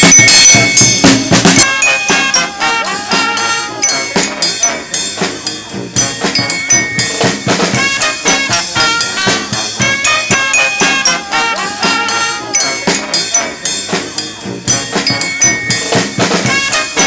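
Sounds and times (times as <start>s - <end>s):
steady drum beat: 0.0s - 17.0s
brass band music: 1.4s - 17.0s.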